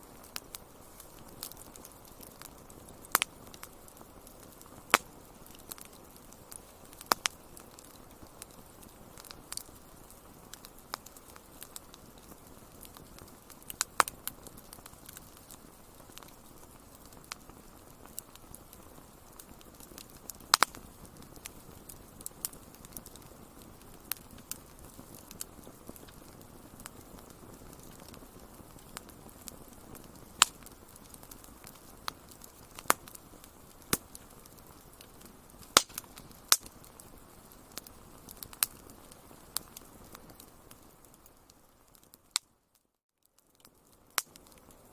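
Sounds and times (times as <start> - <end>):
fire low hiss: 0.0 - 42.4
wood fire crackling: 0.0 - 44.9.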